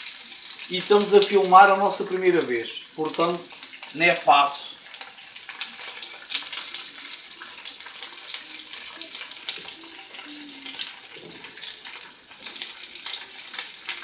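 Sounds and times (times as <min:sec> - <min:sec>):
onions sizzling in a wok: 0:00.0 - 0:14.0.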